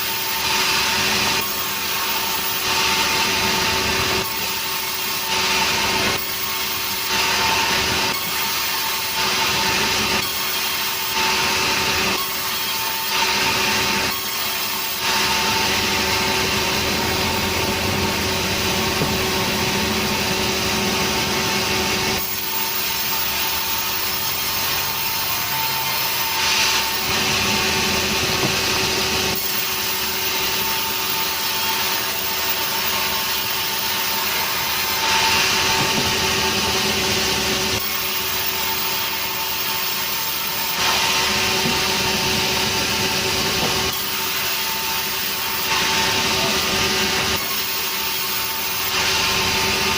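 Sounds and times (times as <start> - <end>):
saw blade cutting wood: 0.0 - 49.9
steady motor hum: 0.0 - 49.9.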